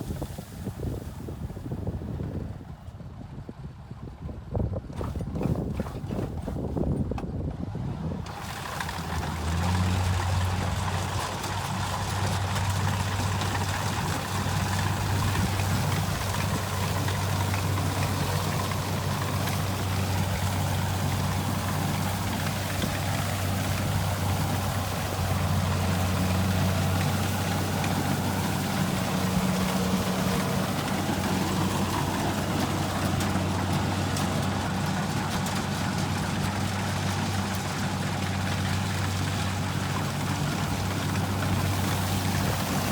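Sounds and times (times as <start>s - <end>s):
diesel engine humming: 7.4s - 42.9s.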